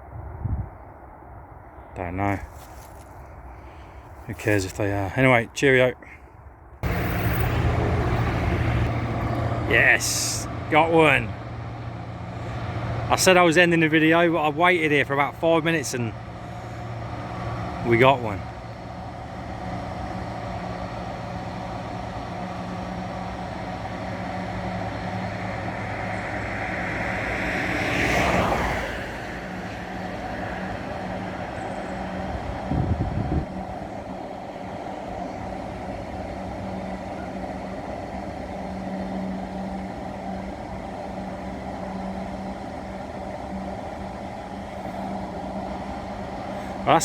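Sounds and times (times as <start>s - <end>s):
freight train passing: 6.8s - 47.0s.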